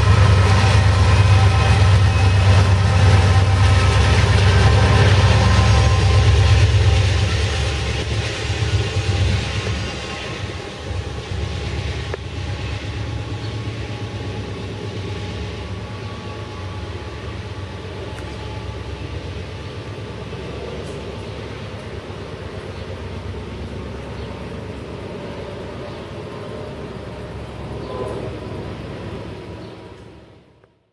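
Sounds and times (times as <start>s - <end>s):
train rumble: 0.0s - 30.8s
diesel locomotive passing: 0.0s - 30.9s.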